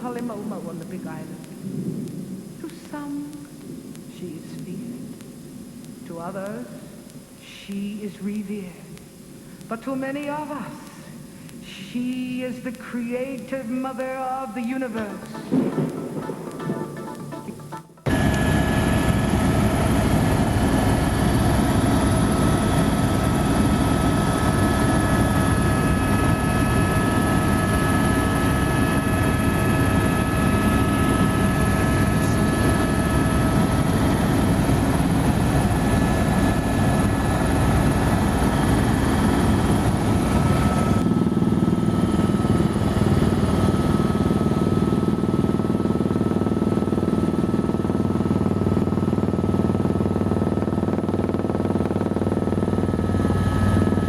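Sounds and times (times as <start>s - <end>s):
helicopter rotor drone: 0.0s - 8.6s, 9.3s - 54.0s
helicopter turbine whine: 9.2s - 54.0s.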